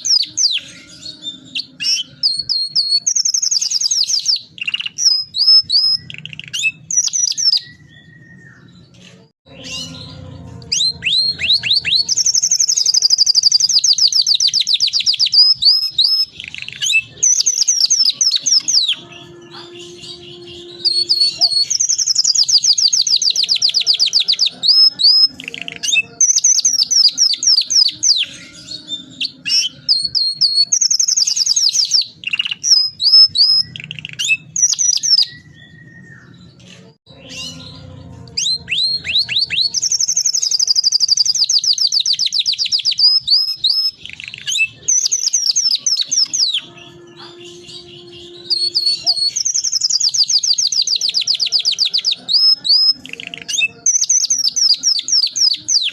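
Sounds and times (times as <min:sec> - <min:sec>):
canary singing in trills: 0:00.0 - 0:55.9.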